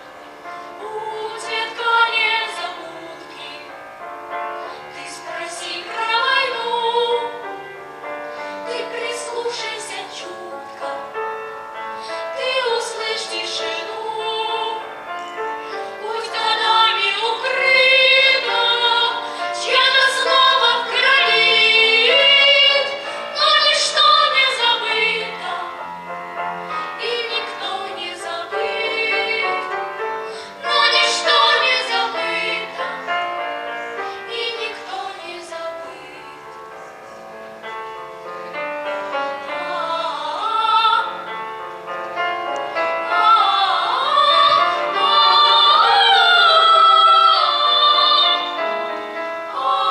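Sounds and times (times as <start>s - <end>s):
children's choir singing: 0.0s - 49.9s
piano accompaniment: 0.0s - 49.9s.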